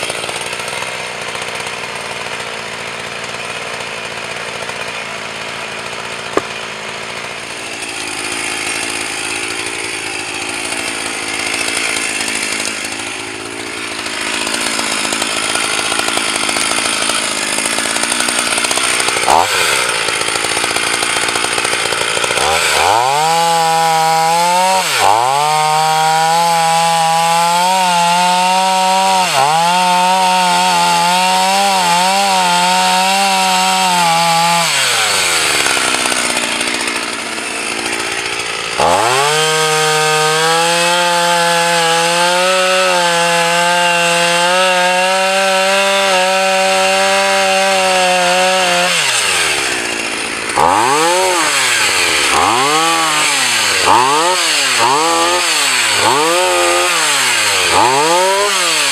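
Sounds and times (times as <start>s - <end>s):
chainsaw cutting through log: 0.0s - 58.9s
chainsaw idling: 0.0s - 58.9s.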